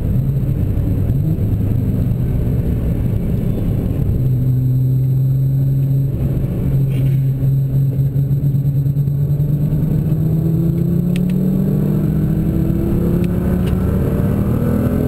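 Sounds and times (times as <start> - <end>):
car engine drone from inside cabin: 0.0 - 15.0
road rumble: 0.0 - 15.0.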